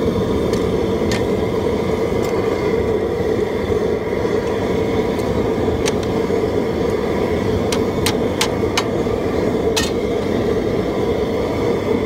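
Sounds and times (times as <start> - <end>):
propane burner roaring: 0.0 - 12.0.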